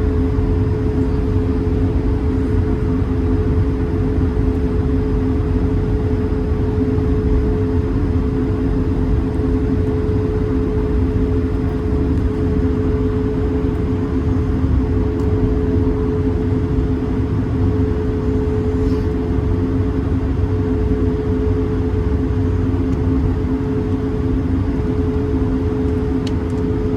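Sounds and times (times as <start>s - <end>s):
low airframe rumble: 0.0s - 26.9s.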